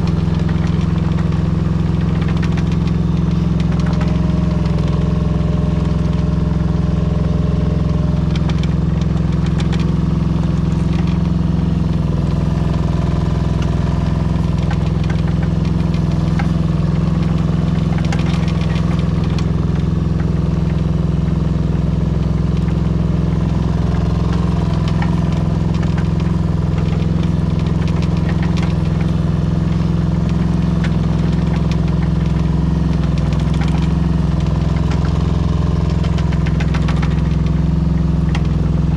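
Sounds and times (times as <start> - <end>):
light clicks and rattles: 0.0 - 21.2, 21.9 - 38.9
diesel engine running: 0.0 - 38.9.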